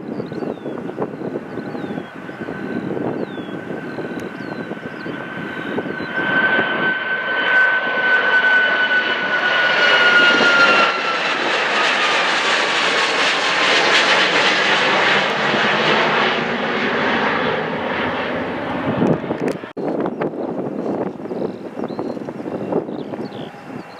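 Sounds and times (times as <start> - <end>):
jet airliner roar: 0.0 - 23.9
jet engine whine: 0.0 - 23.9.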